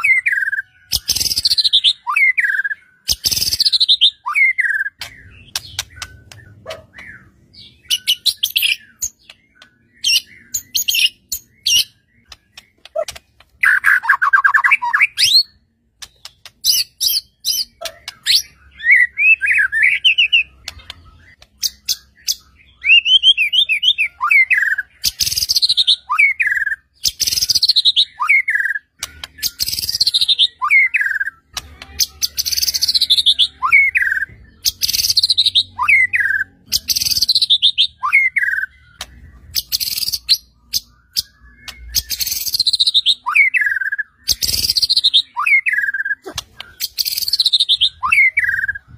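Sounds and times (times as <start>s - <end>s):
bird singing with clicks and trills: 0.0s - 48.9s.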